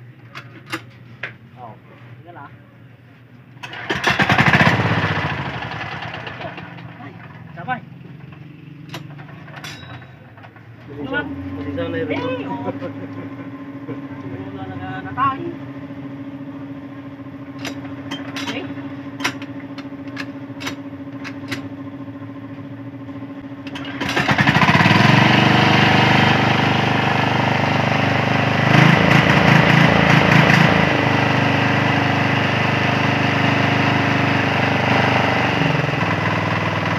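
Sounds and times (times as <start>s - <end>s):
small engine running: 3.6s - 22.6s, 23.6s - 36.9s.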